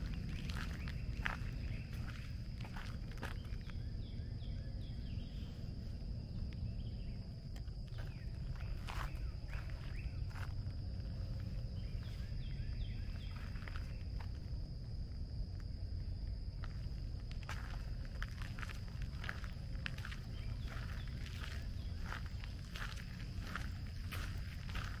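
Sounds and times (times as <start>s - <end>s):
footsteps crunching on trail: 0.0s - 4.2s, 5.0s - 25.0s
birds chirping: 0.0s - 14.8s, 16.0s - 25.0s.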